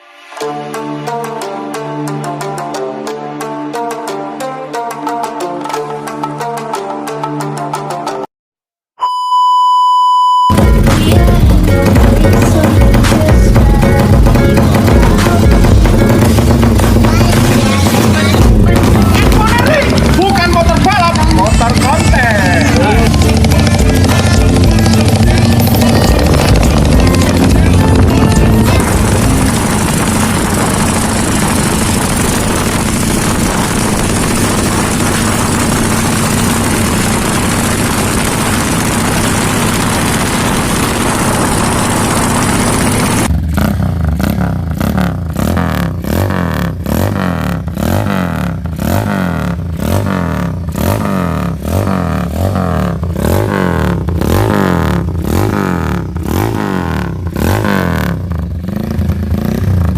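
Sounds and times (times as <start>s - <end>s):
motorcycle engine running loud: 10.5s - 59.9s
motorcycle revving choppy exhaust: 10.5s - 59.9s.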